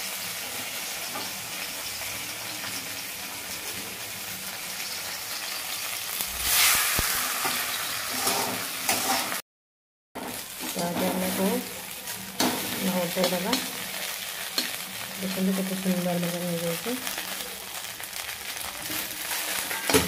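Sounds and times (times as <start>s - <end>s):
batter frying in oil: 0.0s - 9.4s, 10.2s - 20.0s.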